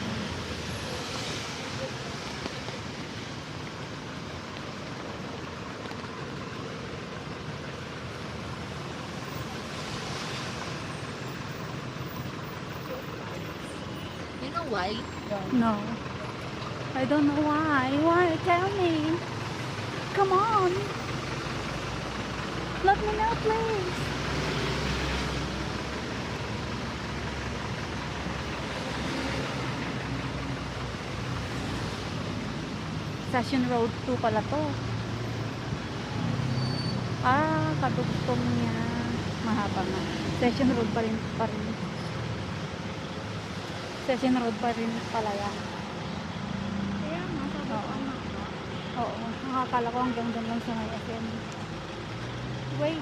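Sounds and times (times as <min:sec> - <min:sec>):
city street traffic noise: 0:00.0 - 0:53.0.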